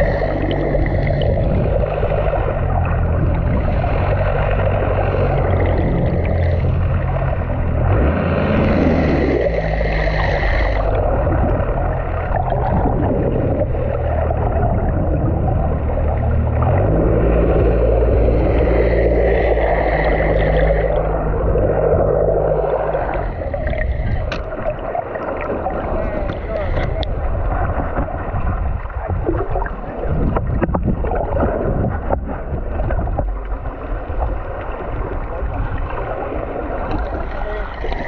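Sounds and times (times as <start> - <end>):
boat engine running: 0.0 - 38.0
water sloshing along hull: 0.0 - 38.0.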